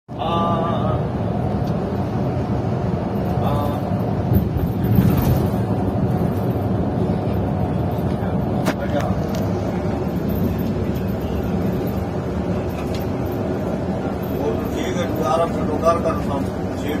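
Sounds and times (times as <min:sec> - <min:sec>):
bus engine and tyres rumbling: 0:00.1 - 0:17.0.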